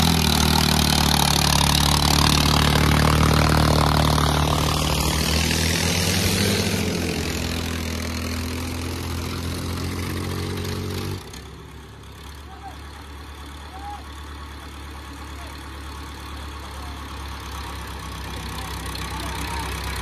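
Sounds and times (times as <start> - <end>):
diesel tractor engines running hard: 0.0 - 20.0.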